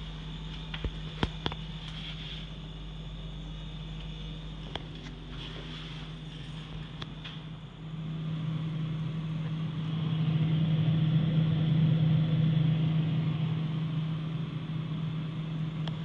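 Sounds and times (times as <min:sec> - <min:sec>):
refrigerator humming: 0:00.0 - 0:16.0.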